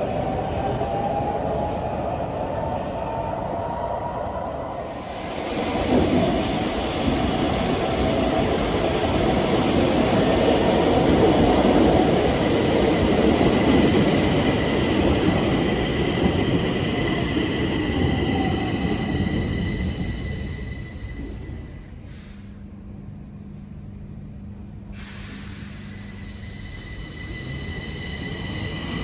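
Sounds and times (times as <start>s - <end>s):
metro train rumble: 0.0s - 29.0s.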